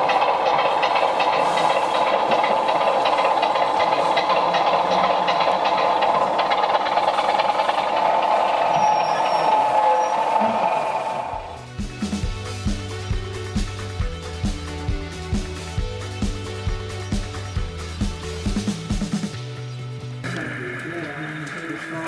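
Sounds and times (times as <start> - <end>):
model train whirring on rails: 0.0 - 19.5, 20.2 - 22.0.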